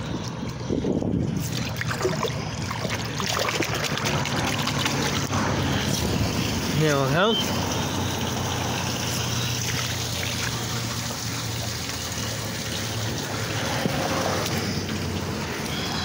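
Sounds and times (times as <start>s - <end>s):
water running down drain: 1.4s - 15.7s.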